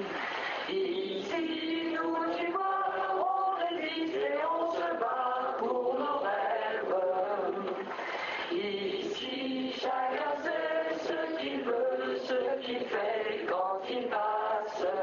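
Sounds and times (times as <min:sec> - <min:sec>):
voices singing a chant-like melody: 0:00.0 - 0:15.0.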